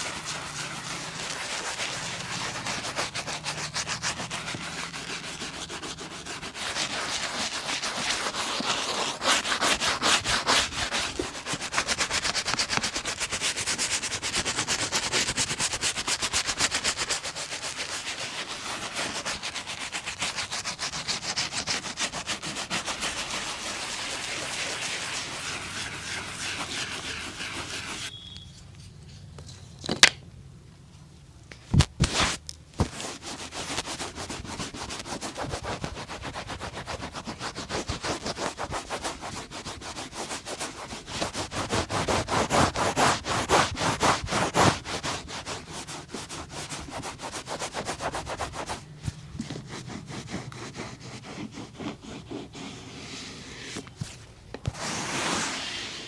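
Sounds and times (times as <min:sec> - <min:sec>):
fast scratchy scraping: 0:00.0 - 0:28.1, 0:32.1 - 0:56.0
rubbing on leather boot: 0:00.0 - 0:28.1, 0:32.0 - 0:56.0.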